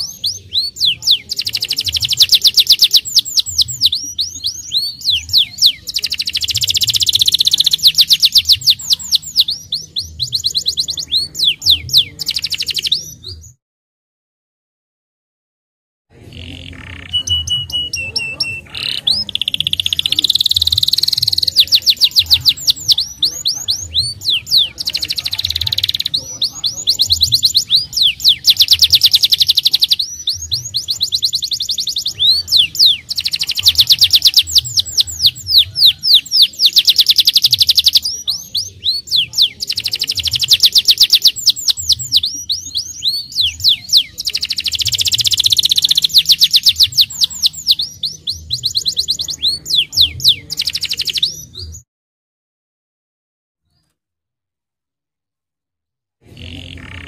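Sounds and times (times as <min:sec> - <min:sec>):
canary singing trills: 0:00.0 - 0:13.6, 0:16.2 - 0:51.8, 0:56.3 - 0:57.0.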